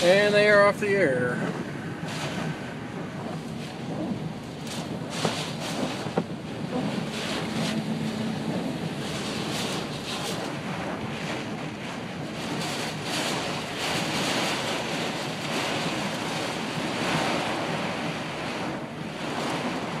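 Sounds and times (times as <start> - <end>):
gusting wind: 0.0 - 20.0
heavy rain on car windshield: 0.0 - 20.0.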